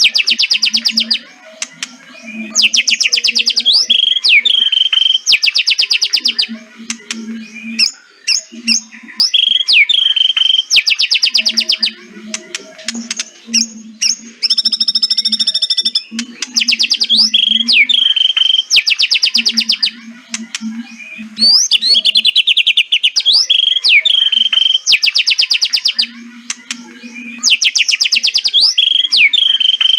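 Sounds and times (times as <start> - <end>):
bird whistled notes: 0.0 - 1.2, 2.2 - 6.6, 7.4 - 12.0, 13.0 - 26.1, 27.0 - 29.9.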